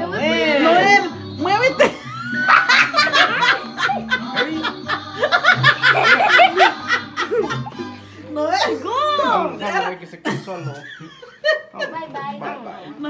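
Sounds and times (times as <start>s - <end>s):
faint music: 0.0s - 13.0s
people laughing: 0.9s - 9.4s, 10.2s - 12.3s.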